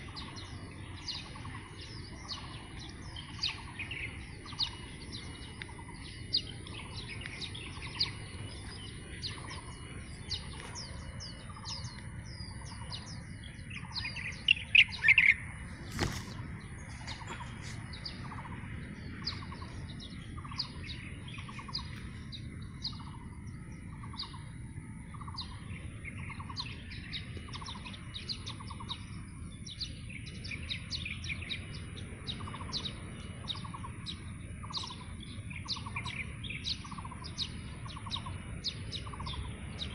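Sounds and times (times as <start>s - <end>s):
repeated lower bird call: 0.0s - 39.9s
small birds chirping: 0.0s - 39.9s.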